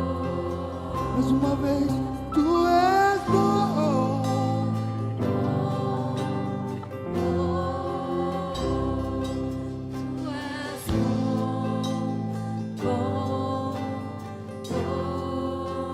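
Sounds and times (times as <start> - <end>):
band playing sustained chords: 0.0 - 15.9
voices singing held notes: 0.0 - 15.9.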